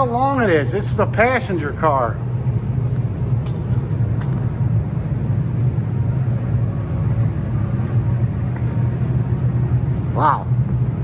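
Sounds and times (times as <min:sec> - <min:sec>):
low rumbling drone in a hall: 0:00.0 - 0:11.0.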